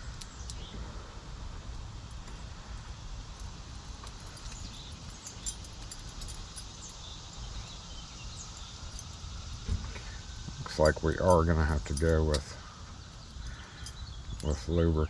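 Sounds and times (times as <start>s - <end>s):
insects: 0.0s - 15.0s
steady low rumble: 0.0s - 15.0s.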